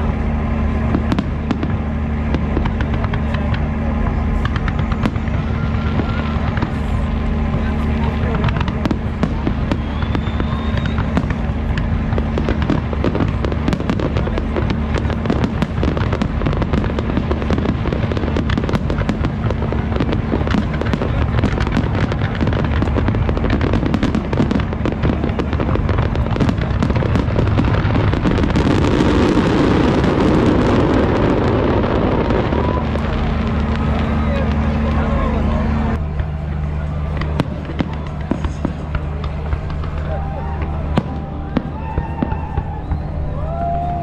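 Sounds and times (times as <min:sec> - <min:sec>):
fireworks bangs and crackles: 0:00.0 - 0:44.0
low rumble: 0:00.0 - 0:44.0.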